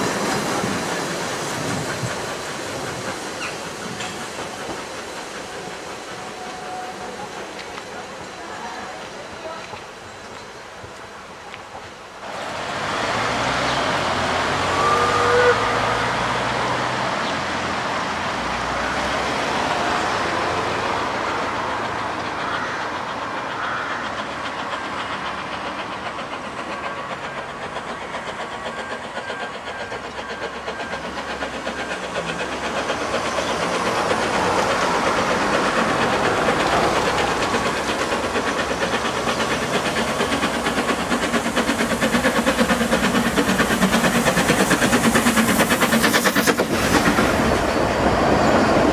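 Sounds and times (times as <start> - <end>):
steam locomotive exhaust: 0.0 - 48.9.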